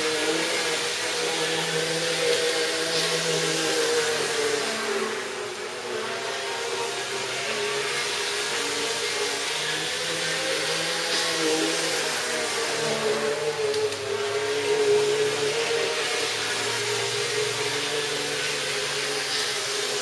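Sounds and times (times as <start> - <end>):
model train motor whirring: 0.0 - 20.0
wheels on track: 0.0 - 20.0.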